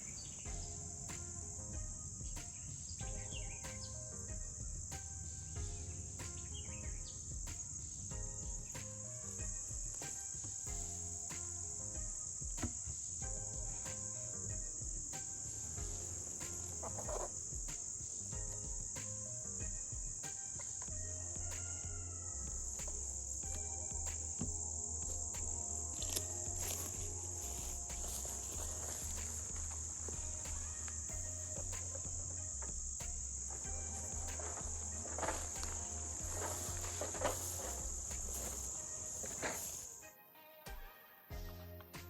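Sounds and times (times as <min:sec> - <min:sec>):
crickets chirping: 0:00.0 - 0:40.1
soft music with steady beat: 0:00.0 - 0:42.0.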